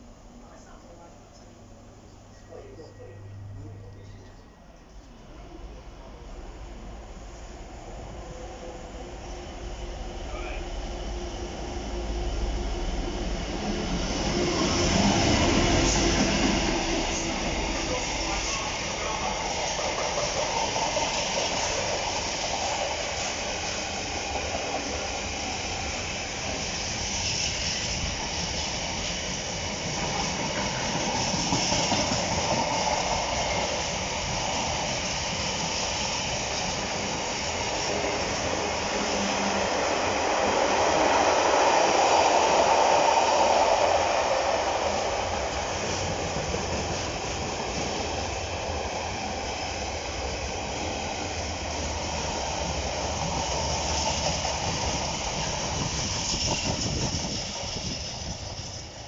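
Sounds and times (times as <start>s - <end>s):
freight train wheels on rail: 2.3s - 59.0s.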